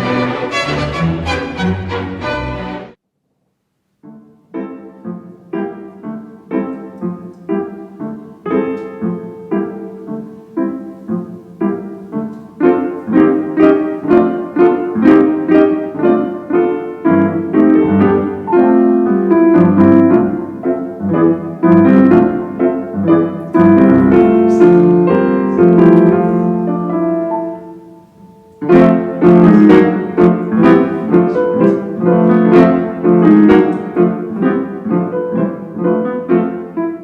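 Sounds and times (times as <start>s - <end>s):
solo piano music: 4.0s - 37.0s.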